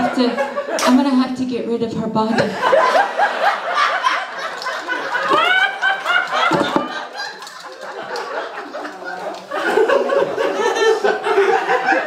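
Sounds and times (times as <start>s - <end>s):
audience laughing: 0.0s - 1.2s, 2.3s - 12.0s.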